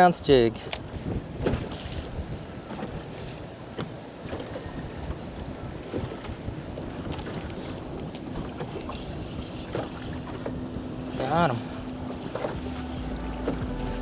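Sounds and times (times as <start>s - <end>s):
waves slapping boat hull: 0.0s - 14.0s
wind noise on microphone: 0.0s - 14.0s.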